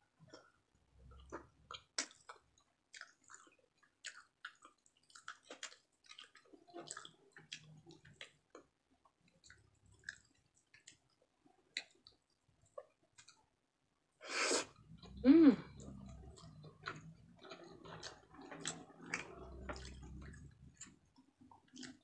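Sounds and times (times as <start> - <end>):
person chewing with wet smacks: 0.3 - 13.6, 14.6 - 22.0.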